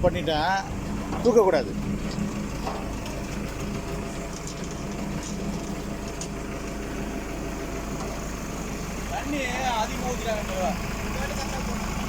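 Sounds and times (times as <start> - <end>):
concrete mixer turning: 0.0 - 12.0
tractor diesel engine running: 0.0 - 12.0.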